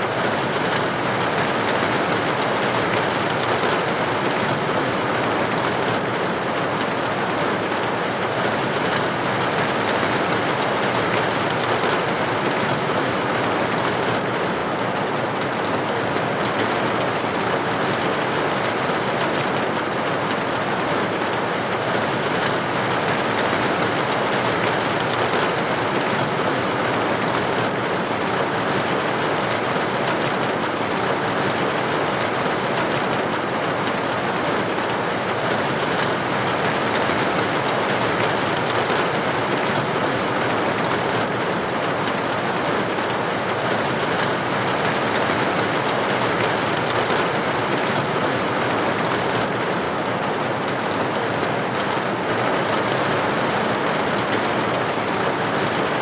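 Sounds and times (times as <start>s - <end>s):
rain pattering on window: 0.0s - 56.0s.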